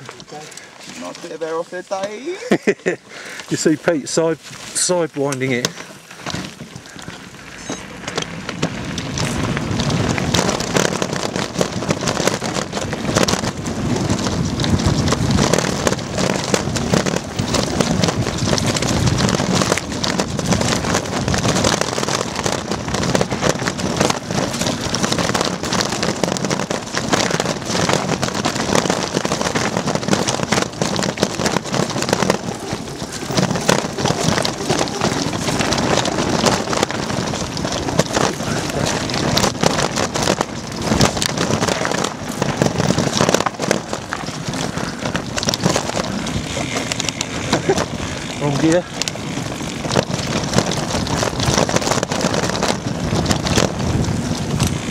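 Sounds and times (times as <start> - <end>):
bike rattling: 0.0 - 54.9
bike tyres crunching over stones: 0.0 - 54.9.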